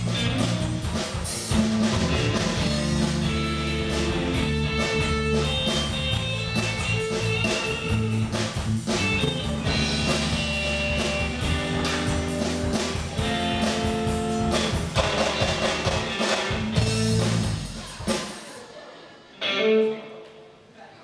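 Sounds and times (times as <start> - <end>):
electric guitar: 0.0 - 18.2, 19.4 - 20.4
drum kit: 0.0 - 18.7.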